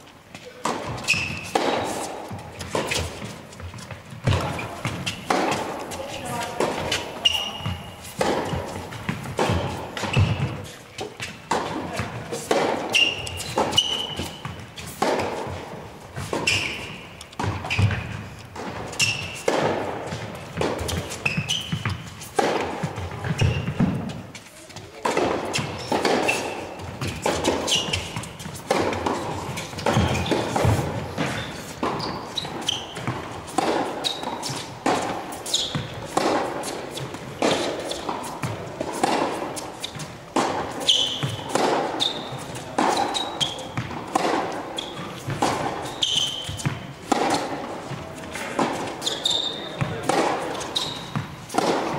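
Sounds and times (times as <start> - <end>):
rackets striking tennis ball: 0.0 - 51.9
tennis ball bouncing: 0.3 - 51.9
shoe squeaks on court: 0.5 - 11.6, 12.9 - 15.0, 16.2 - 18.3, 18.9 - 19.6, 20.6 - 22.4, 23.0 - 24.0, 25.4 - 38.2, 39.0 - 47.5, 48.7 - 51.7.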